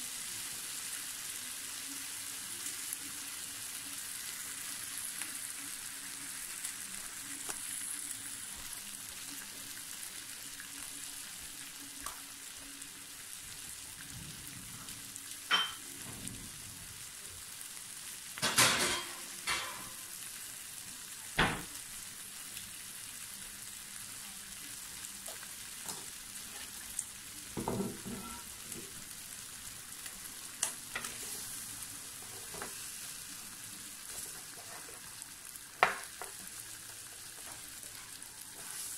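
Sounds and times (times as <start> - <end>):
ribs sizzling on a grill: 0.0 - 38.9.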